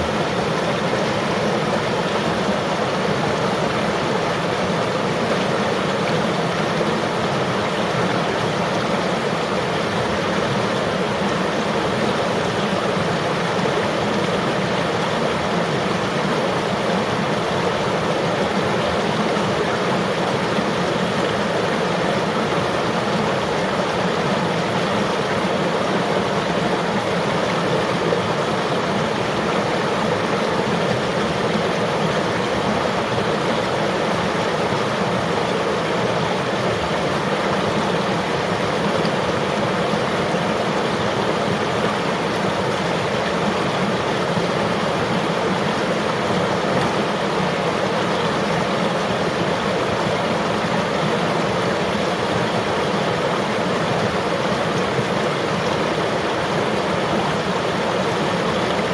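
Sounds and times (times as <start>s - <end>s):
river rushing: 0.0s - 58.9s.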